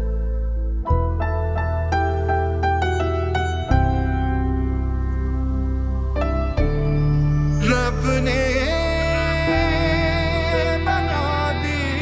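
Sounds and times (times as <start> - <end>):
held low chord: 0.0 - 12.0.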